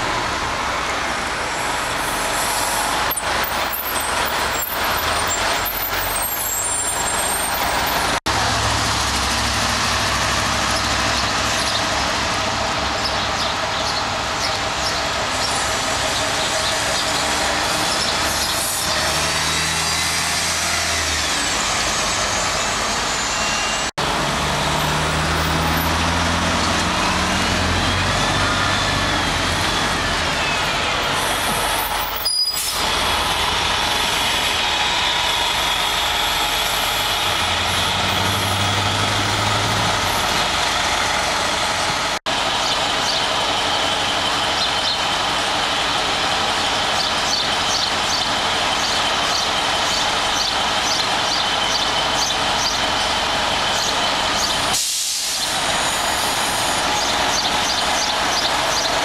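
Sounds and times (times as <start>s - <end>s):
bus diesel engines: 0.0s - 59.0s
road noise: 0.0s - 59.0s.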